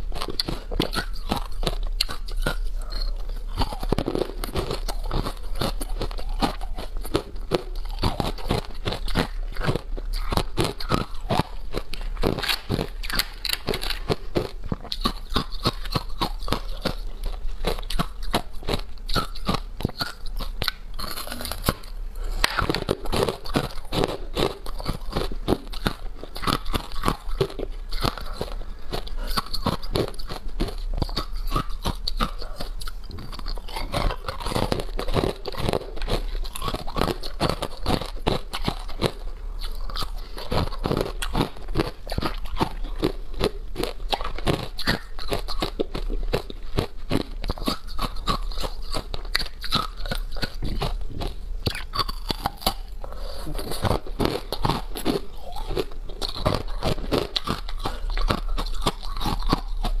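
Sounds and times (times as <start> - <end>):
ice crunching while chewed: 0.0 - 60.0.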